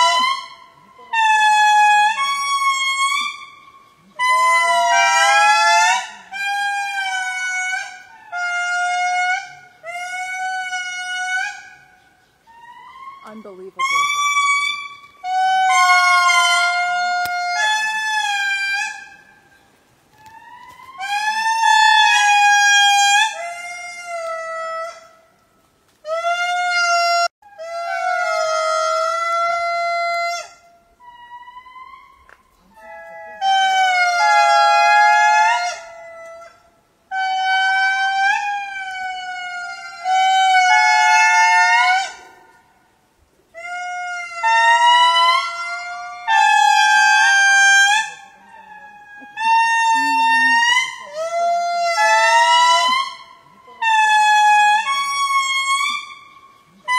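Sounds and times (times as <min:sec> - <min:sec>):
lemurs wailing calls: 0:00.0 - 0:25.2, 0:26.0 - 0:42.6, 0:43.6 - 0:56.9.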